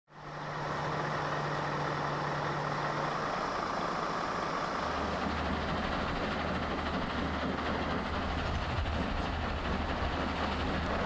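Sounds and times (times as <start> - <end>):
truck diesel engine idling: 0.1 - 11.0.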